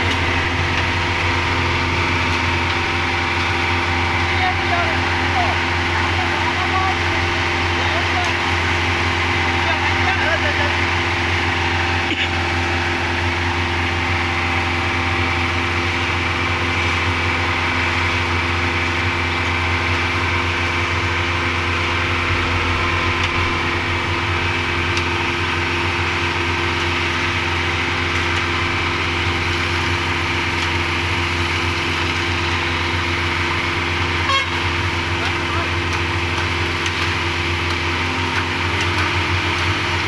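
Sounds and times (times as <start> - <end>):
cement mixer engine running: 0.0 - 40.0.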